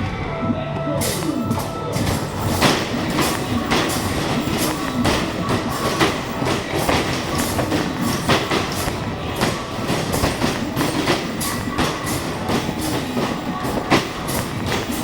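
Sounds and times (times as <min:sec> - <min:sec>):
continuous clatter: 0:00.0 - 0:15.0
balls rattling down ramp: 0:01.0 - 0:15.0
basketballs thudding on backboard: 0:01.0 - 0:15.0
sharp knocks: 0:01.0 - 0:15.0.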